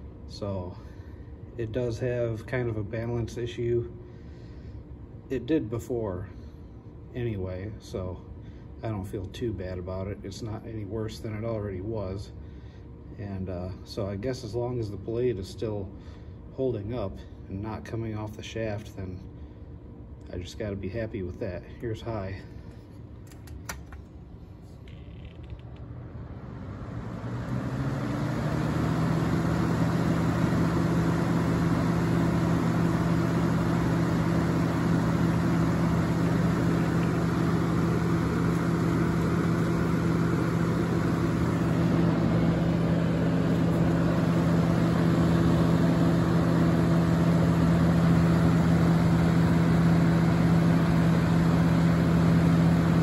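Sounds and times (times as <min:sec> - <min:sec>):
box fan humming: 0:00.0 - 0:53.0.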